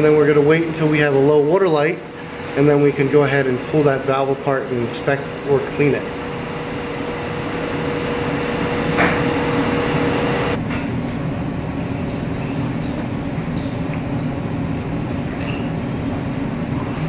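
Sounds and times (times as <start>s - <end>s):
machine hum: 0.0s - 17.0s
running water: 0.0s - 17.0s.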